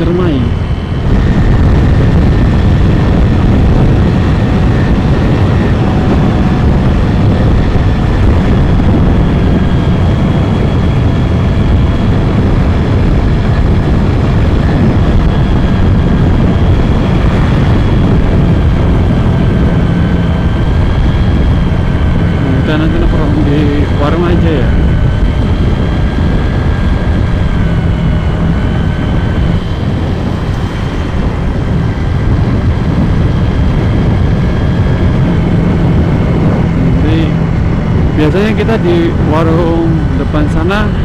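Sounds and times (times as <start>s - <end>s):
motorcycle engine running: 0.0s - 41.0s
wind and road noise: 0.0s - 41.0s.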